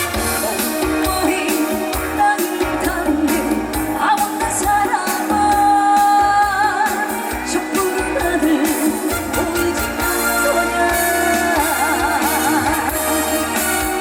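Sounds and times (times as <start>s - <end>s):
band backing track: 0.0s - 14.0s
woman singing: 0.2s - 14.0s.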